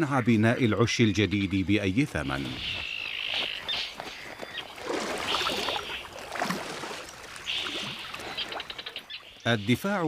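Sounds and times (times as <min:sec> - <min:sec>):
harsh raspy bird calls: 0:00.0 - 0:06.3, 0:07.2 - 0:10.0
water splashes: 0:01.7 - 0:10.0.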